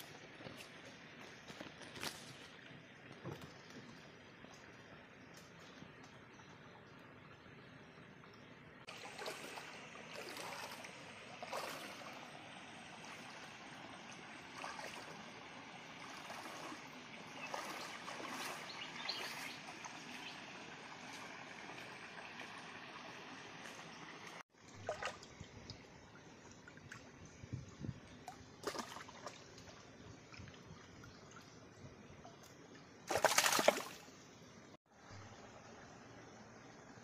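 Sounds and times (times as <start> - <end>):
water splashing and trickling: 0.0 - 37.0.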